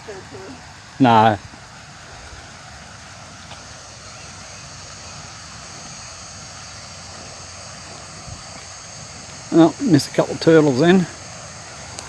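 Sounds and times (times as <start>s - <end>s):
faint high-pitched hum: 0.0s - 12.0s.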